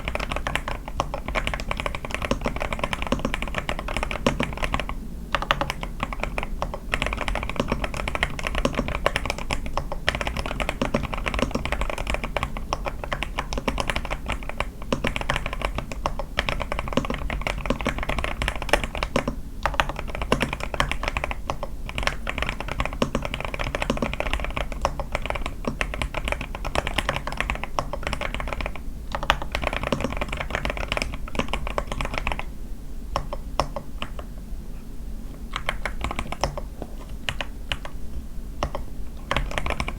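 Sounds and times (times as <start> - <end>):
fast mechanical keyboard typing: 0.0 - 32.5, 33.2 - 34.3, 35.5 - 38.0, 38.6 - 39.9.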